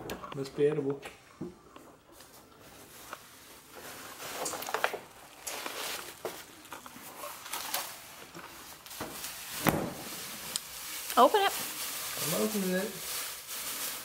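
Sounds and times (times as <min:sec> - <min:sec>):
wrapping paper rustling: 0:02.1 - 0:14.0.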